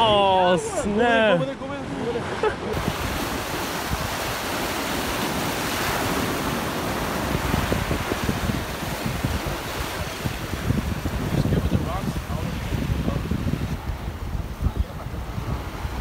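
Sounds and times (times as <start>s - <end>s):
surf washing against rocks: 0.0s - 16.0s
wind buffeting microphone: 1.8s - 16.0s.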